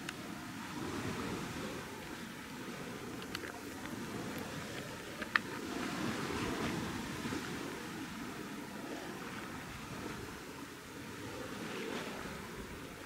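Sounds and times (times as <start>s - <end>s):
sea washing on shore: 0.0s - 13.0s
wind: 0.0s - 13.0s.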